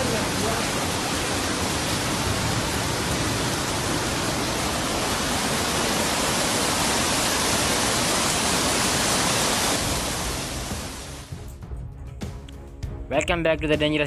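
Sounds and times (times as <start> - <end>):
heavy rain pouring: 0.0 - 11.4.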